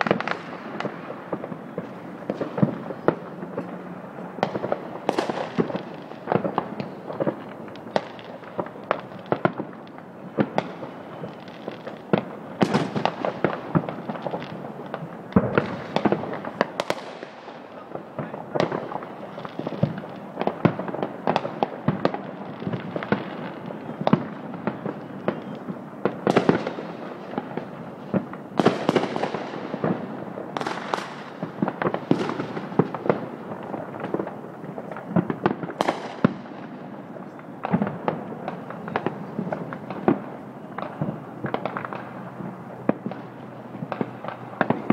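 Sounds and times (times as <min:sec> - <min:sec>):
firecrackers crackling: 0:00.0 - 0:44.9.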